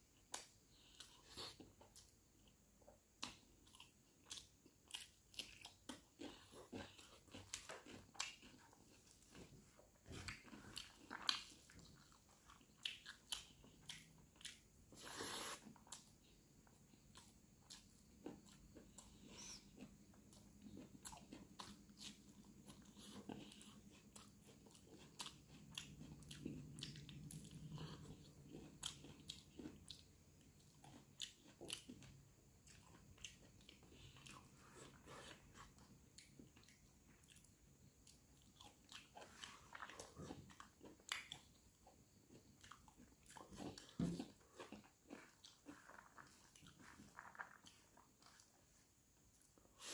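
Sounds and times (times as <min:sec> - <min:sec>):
person chewing and lip smacking: 0:00.1 - 0:49.9.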